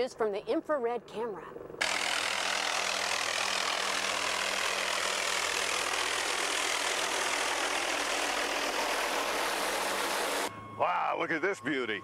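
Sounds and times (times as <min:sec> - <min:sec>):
helicopter flying overhead: 0:00.0 - 0:12.0.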